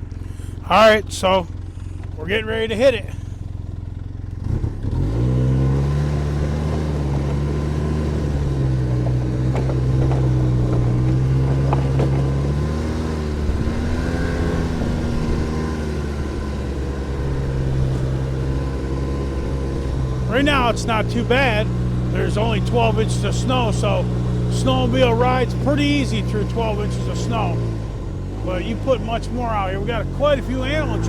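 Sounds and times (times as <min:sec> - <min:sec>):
snowmobile engine revving: 0:00.2 - 0:03.4, 0:04.4 - 0:31.0.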